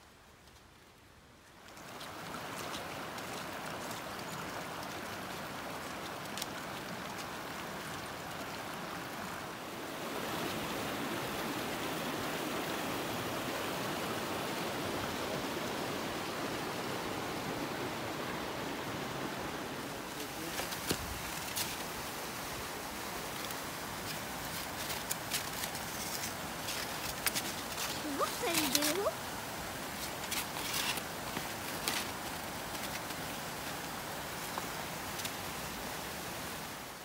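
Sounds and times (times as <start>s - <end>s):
stream flowing over rocks: 0.0s - 37.0s.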